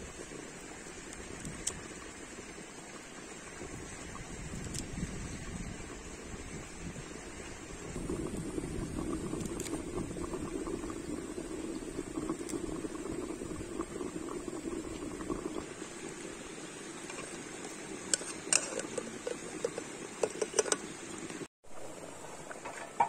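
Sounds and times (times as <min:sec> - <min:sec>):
stew bubbling at a boil: 0:00.0 - 0:23.0.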